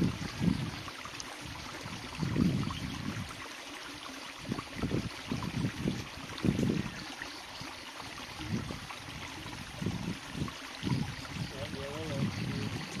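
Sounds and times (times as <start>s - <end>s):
stream water splashing over rock: 0.0s - 13.0s.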